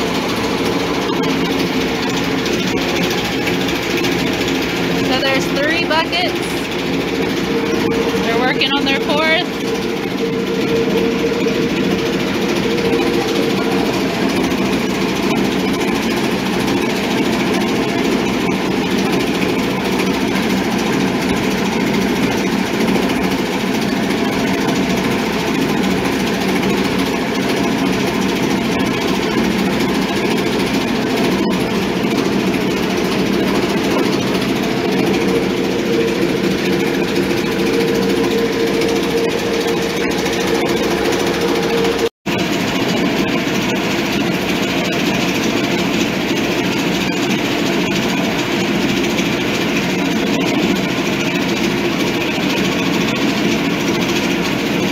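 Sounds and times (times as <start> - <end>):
motorised grinding mill running: 0.0 - 54.9.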